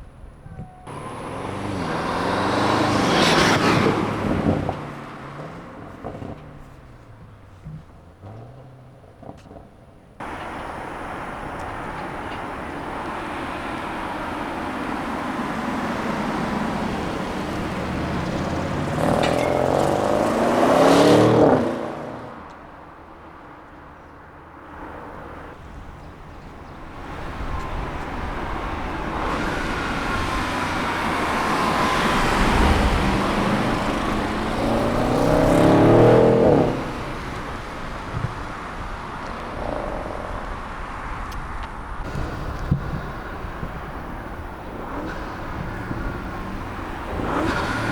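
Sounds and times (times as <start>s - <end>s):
car engine accelerating hard: 0.8s - 47.9s.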